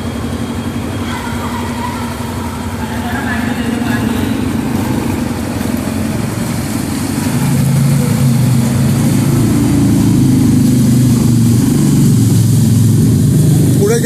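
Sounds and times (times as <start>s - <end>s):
vehicle driving through water: 0.0s - 14.0s
vehicle engine running: 0.0s - 14.0s.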